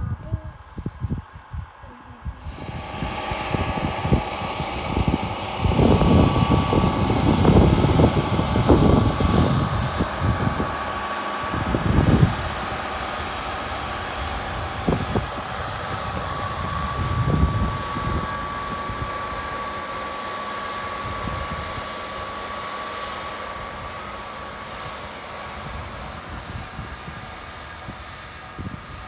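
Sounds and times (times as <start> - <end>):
tractor diesel engine droning: 1.3 - 29.0.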